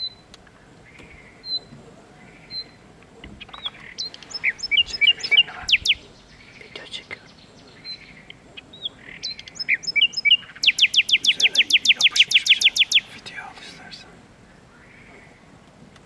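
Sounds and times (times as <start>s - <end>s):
nightingale singing: 0.0s - 15.5s.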